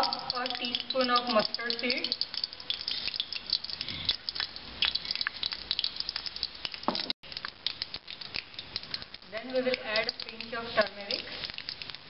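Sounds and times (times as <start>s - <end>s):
hot oil crackling and popping: 0.0s - 12.0s
seeds popping in oil: 0.0s - 12.0s.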